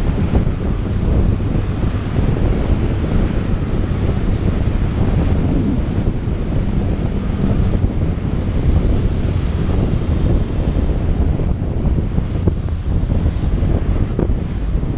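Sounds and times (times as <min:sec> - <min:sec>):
motorcycle engine running: 0:00.0 - 0:14.9
wind buffeting microphone: 0:00.0 - 0:14.9.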